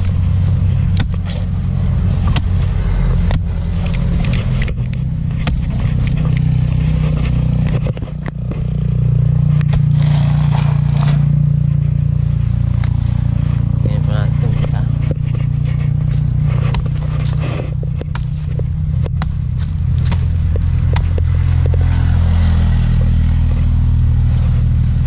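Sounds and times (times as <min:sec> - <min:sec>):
machete chopping plant trunk: 0:00.0 - 0:11.4, 0:12.6 - 0:23.5
low motor hum: 0:00.0 - 0:25.0.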